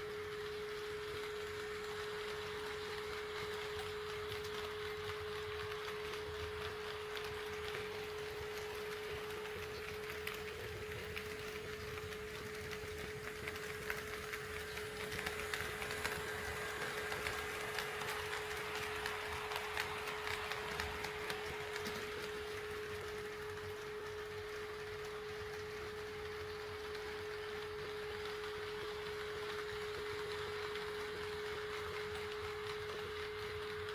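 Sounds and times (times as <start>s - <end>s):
steady hum-like tone: 0.0s - 33.7s
model train wheels clicking: 0.0s - 33.9s.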